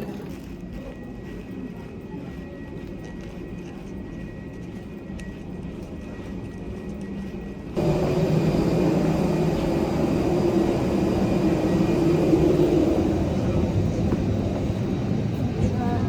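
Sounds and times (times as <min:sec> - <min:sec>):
low hum: 0:00.0 - 0:16.0
jet engine noise: 0:00.9 - 0:16.0.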